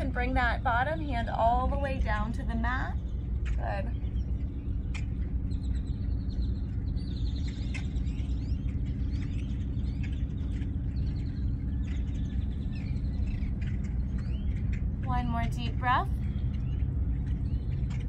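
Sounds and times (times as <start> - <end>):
birds chirping: 0.0 - 18.0
low mechanical hum: 0.0 - 18.0.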